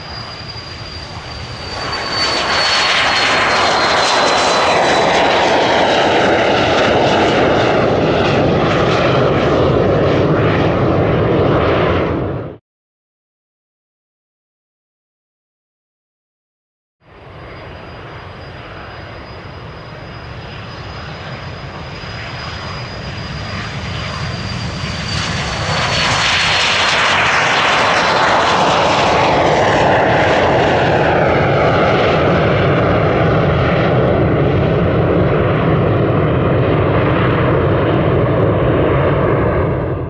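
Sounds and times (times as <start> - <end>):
jet taking off: 0.0 - 12.6, 17.1 - 40.0.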